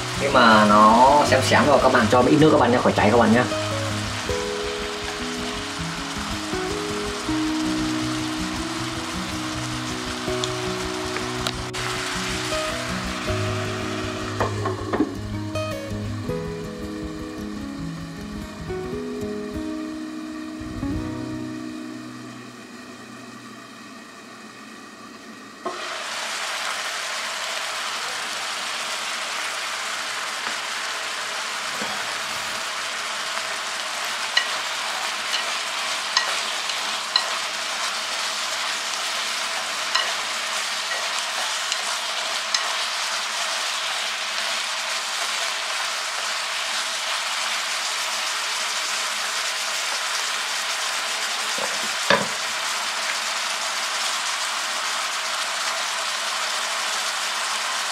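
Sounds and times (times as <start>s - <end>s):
chicken and onion sizzling: 0.0s - 57.9s.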